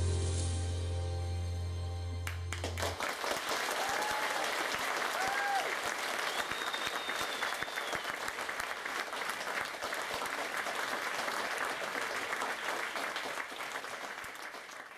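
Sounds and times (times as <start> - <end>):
audience applauding: 2.2 - 14.9.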